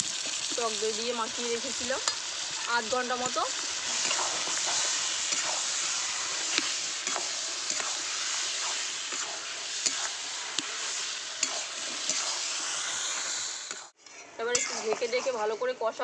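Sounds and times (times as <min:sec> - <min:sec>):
meat sizzling in oil: 0:00.0 - 0:15.5
metal spatula scraping pan: 0:01.4 - 0:15.8.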